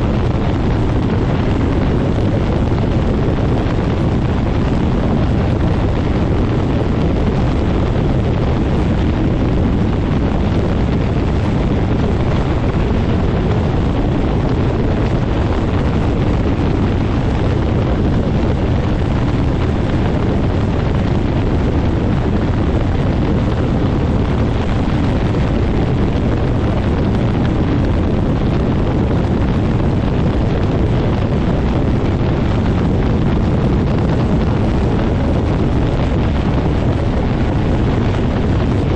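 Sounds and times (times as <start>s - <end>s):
ultralight engine and propeller running: 0.0s - 38.9s
wind buffeting microphone: 0.0s - 38.9s.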